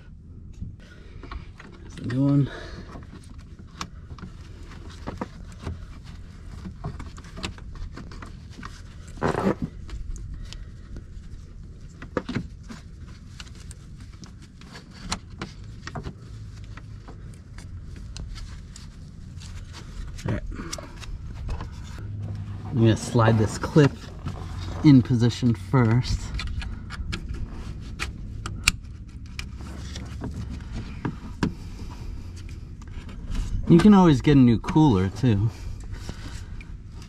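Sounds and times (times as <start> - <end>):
low background rumble: 0.0 - 37.0.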